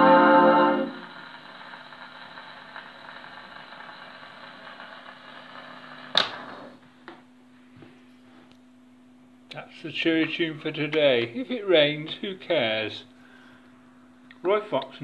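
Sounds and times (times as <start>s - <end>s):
record surface hiss and crackle: 0.0s - 13.4s, 14.0s - 15.0s.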